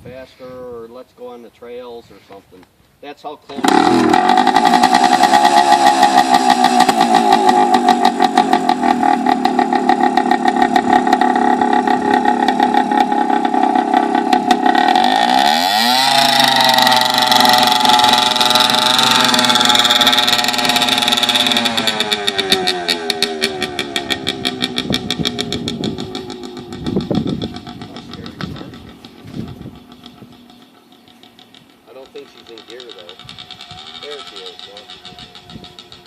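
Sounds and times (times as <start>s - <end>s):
motorcycle engine idling and revving: 3.5s - 36.0s.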